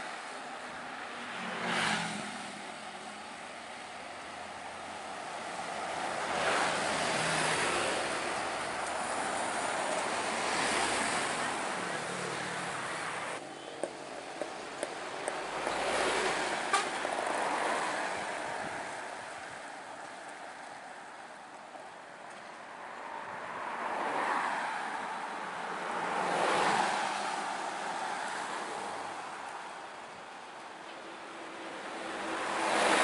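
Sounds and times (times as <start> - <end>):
road traffic passing: 0.0 - 33.0.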